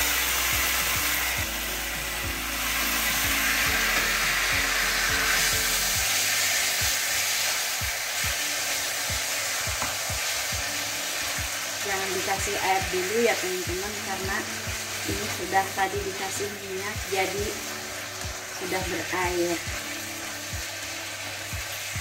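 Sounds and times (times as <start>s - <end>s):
chicken sizzling in hot oil: 0.0s - 22.0s
spatula stirring in a pan: 0.2s - 22.0s.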